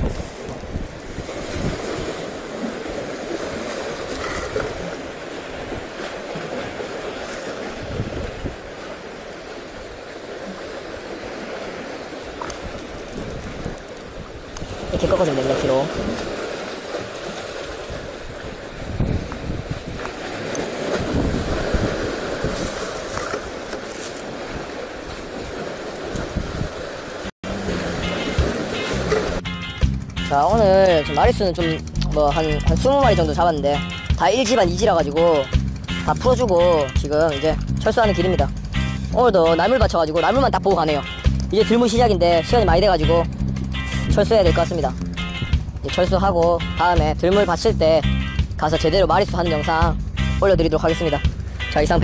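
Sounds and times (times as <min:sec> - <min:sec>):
wind buffeting microphone: 0:00.0 - 0:46.4
sea waves washing against concrete: 0:00.0 - 0:52.0.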